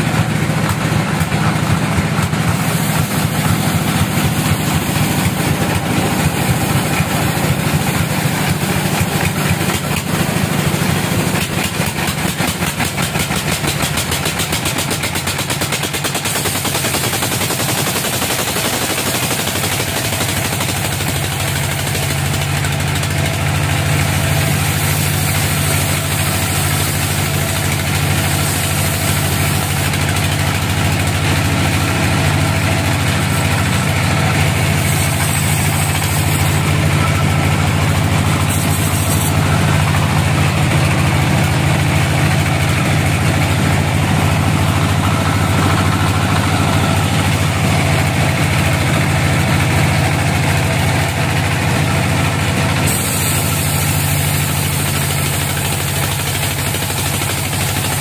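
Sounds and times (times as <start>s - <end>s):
band saw running: 0.0s - 58.0s.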